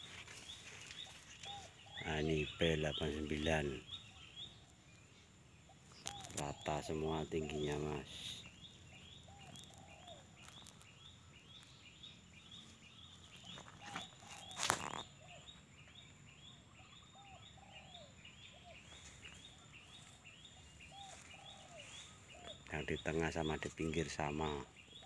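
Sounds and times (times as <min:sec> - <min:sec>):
leaves rustling against microphone: 0:00.0 - 0:16.2, 0:18.3 - 0:25.0.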